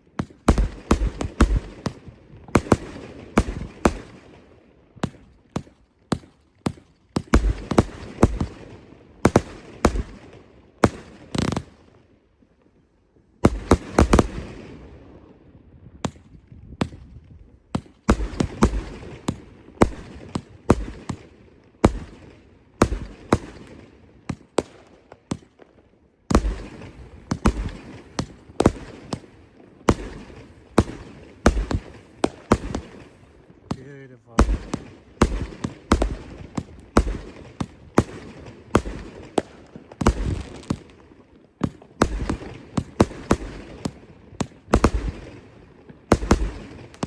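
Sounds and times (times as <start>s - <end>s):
fireworks bangs and crackling: 0.0s - 12.6s, 13.4s - 47.0s.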